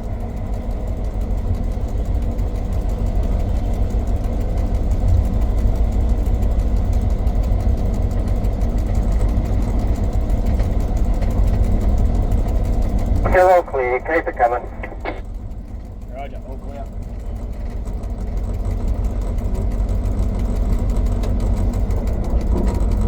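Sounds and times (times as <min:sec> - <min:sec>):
locomotive diesel engine rumble: 0:00.0 - 0:23.0.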